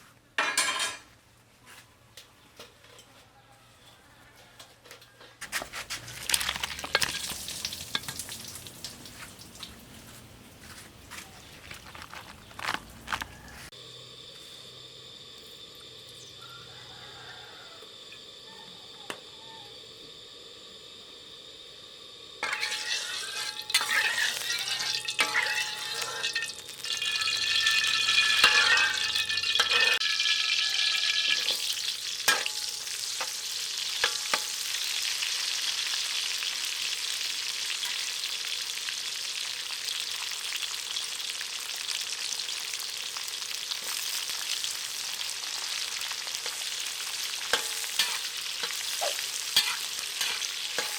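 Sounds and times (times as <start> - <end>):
food sizzling in hot oil: 5.8 - 10.7, 12.9 - 50.9.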